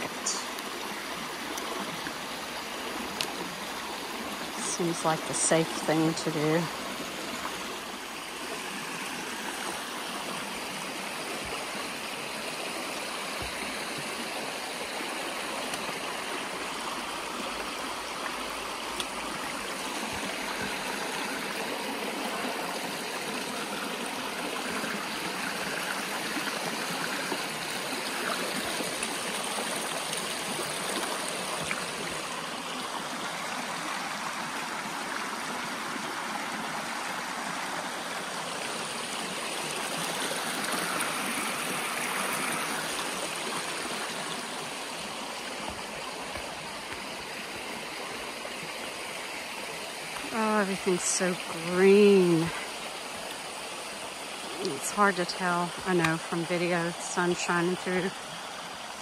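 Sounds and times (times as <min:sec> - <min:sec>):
creek splashing over stones: 0:00.0 - 0:59.0.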